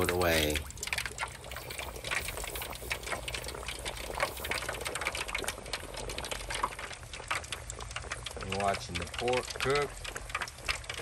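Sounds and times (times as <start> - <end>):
low steady hum: 0.0 - 11.0
oil sizzling and crackling: 0.0 - 11.0.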